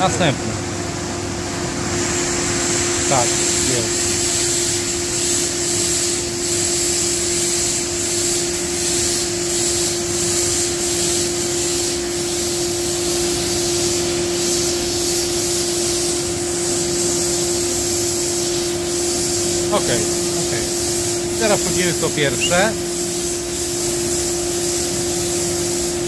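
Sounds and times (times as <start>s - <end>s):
machine drone with hum and hiss: 0.0s - 26.0s.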